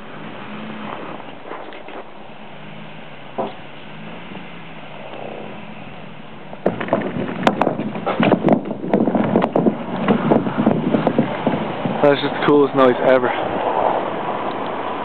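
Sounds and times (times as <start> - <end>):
tires cracking over logs: 0.0 - 15.0
truck engine running low: 0.0 - 15.0.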